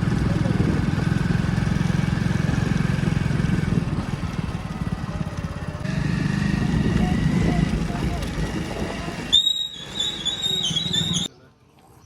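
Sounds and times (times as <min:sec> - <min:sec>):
heavy diesel engine running: 0:00.0 - 0:11.3.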